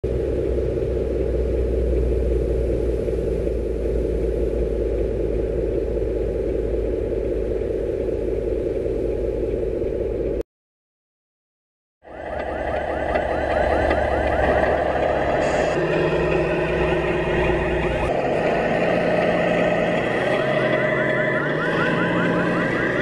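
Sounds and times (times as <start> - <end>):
engine idling: 0.0 - 10.4, 12.0 - 23.0.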